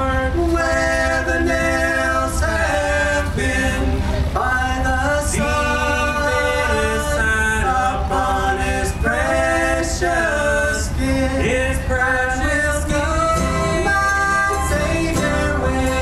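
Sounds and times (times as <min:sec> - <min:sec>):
men singing gospel song: 0:00.0 - 0:16.0.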